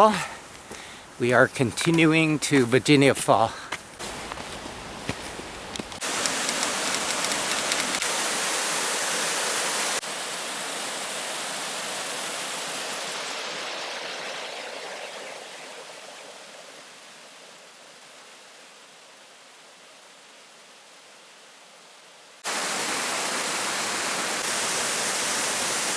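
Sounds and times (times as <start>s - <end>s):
water rushing: 1.2s - 19.0s, 22.4s - 25.9s.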